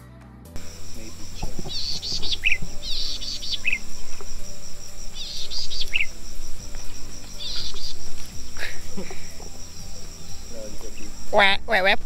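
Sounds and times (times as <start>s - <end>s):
bird chirping: 0.6s - 12.0s
insect drone: 0.6s - 12.0s.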